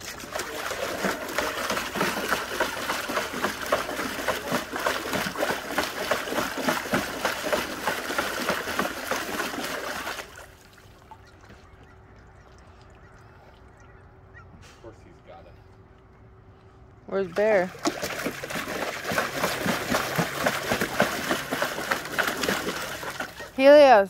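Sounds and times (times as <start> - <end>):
dog splashing in tub of water: 0.0 - 12.7, 17.2 - 24.0.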